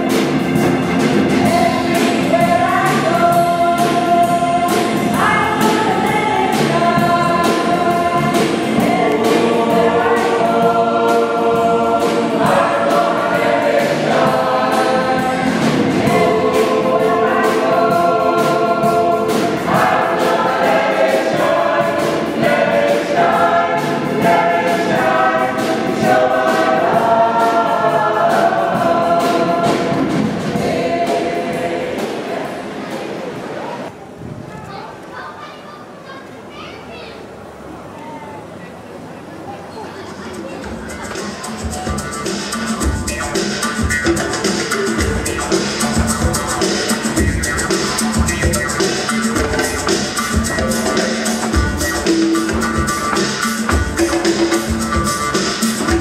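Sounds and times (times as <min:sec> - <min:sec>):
mixed choir singing in parts: 0:00.0 - 0:33.9, 0:40.7 - 0:56.0
steady accompaniment beat: 0:00.0 - 0:34.0, 0:40.4 - 0:56.0.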